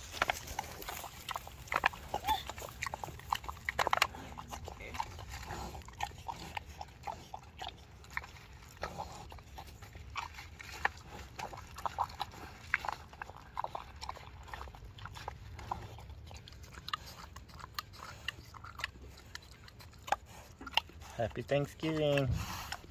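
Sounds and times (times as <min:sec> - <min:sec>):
pig chewing and snuffling: 0:00.0 - 0:22.9.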